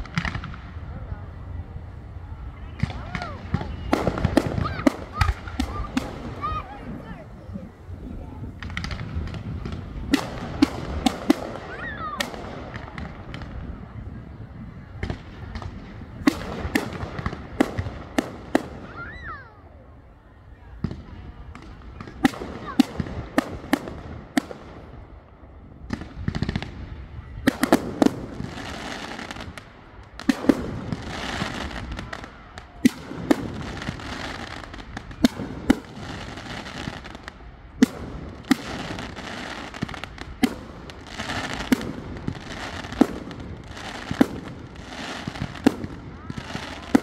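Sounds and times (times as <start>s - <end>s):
fireworks bangs: 0.0s - 20.0s, 20.7s - 47.0s
continuous hiss: 0.0s - 47.0s.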